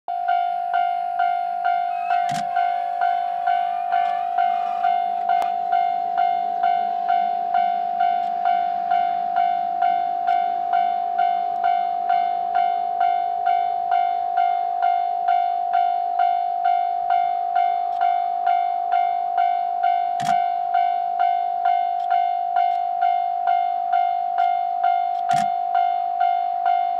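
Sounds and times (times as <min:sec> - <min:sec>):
level crossing alarm bell: 0:00.1 - 0:26.9.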